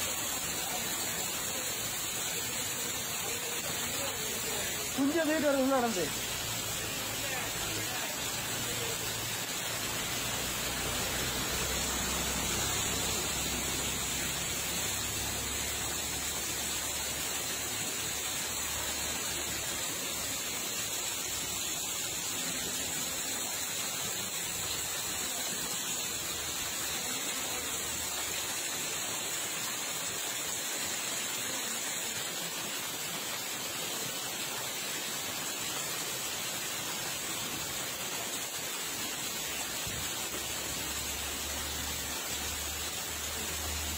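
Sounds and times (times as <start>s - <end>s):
floodwater rushing: 0.0s - 43.9s.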